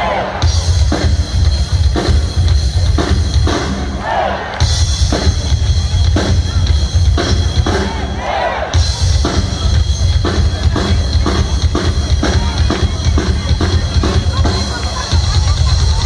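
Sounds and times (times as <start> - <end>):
rock drum kit solo: 0.1 - 4.0, 4.6 - 16.0.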